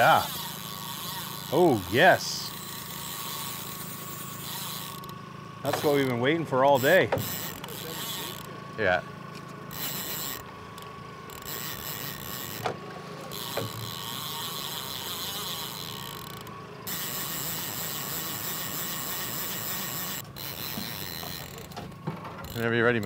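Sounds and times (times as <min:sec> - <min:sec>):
fishing reel clicking: 0:00.0 - 0:06.2, 0:06.8 - 0:08.5, 0:09.7 - 0:12.6, 0:13.3 - 0:21.8, 0:22.5 - 0:23.0.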